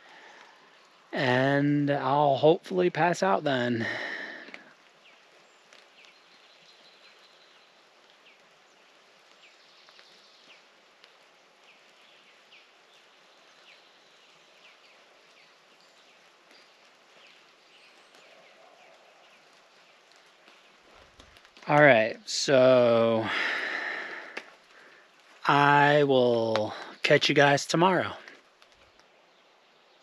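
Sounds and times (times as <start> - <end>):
faint hiss: 0.0 - 30.0
small birds chirping: 3.3 - 30.0.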